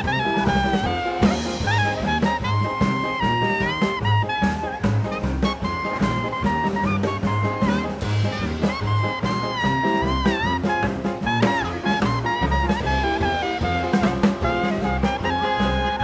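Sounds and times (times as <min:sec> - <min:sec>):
upbeat swing jazz with horns: 0:00.0 - 0:16.0.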